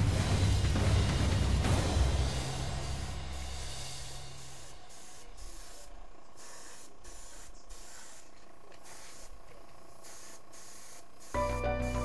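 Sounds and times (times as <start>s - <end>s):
airbrush spraying with hiss of air: 1.6s - 12.0s.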